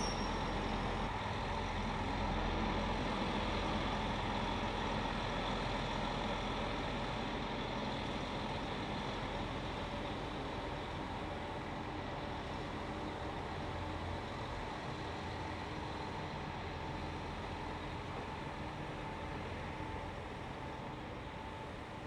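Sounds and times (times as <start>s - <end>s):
electric trains humming: 0.0s - 22.0s
faint whine tones: 0.0s - 22.0s
train moving past: 0.0s - 22.0s.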